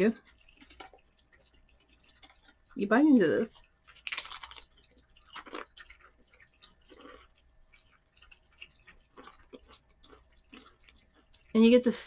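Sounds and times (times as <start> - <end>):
chewing potato crisp: 0.0 - 12.0.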